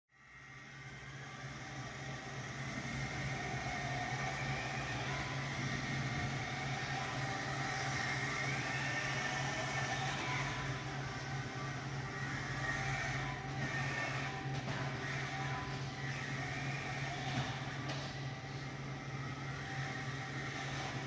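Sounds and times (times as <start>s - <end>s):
rc car motor whining: 0.2s - 21.0s
steady low hum: 0.2s - 21.0s.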